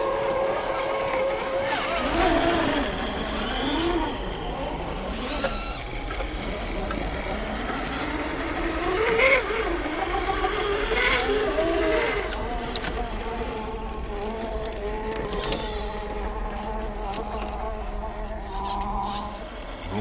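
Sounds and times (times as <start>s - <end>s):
toy truck electric motor whining: 0.0s - 20.0s.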